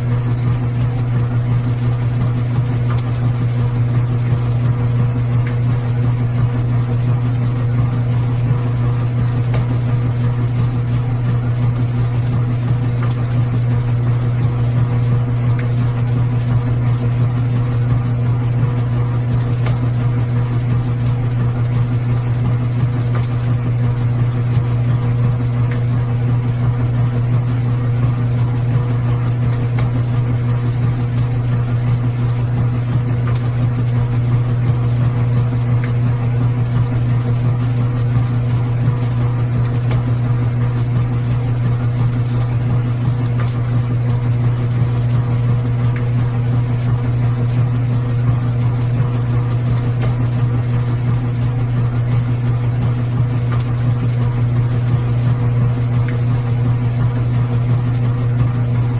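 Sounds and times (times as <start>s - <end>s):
washing machine running: 0.0s - 58.9s.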